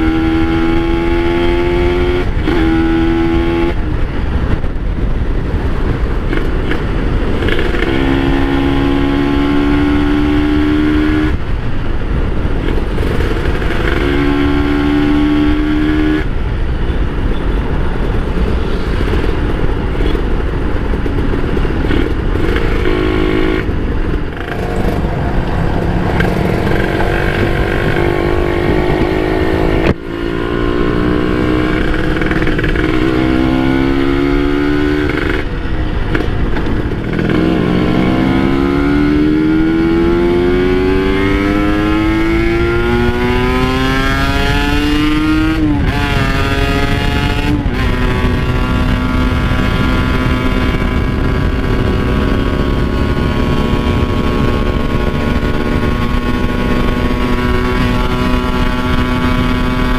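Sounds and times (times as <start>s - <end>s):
motorcycle engine accelerating: 0.0s - 59.9s
rushing noise: 10.1s - 59.9s.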